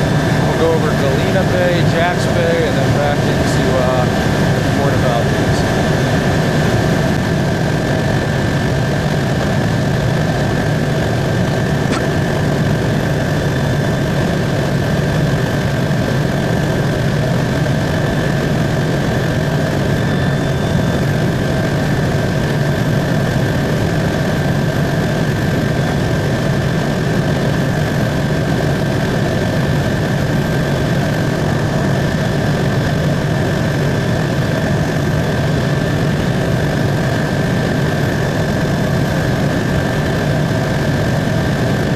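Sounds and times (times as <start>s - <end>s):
helicopter engine and rotor noise: 0.0s - 41.9s.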